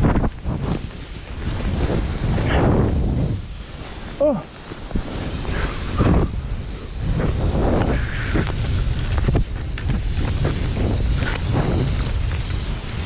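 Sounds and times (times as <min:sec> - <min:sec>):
skis scraping through snow: 0:00.0 - 0:13.0
wind buffeting microphone: 0:00.0 - 0:13.0.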